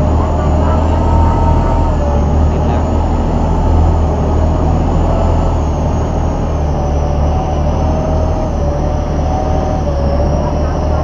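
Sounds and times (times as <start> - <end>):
boat engine droning: 0.0 - 11.0
faint engine whine: 0.0 - 11.0.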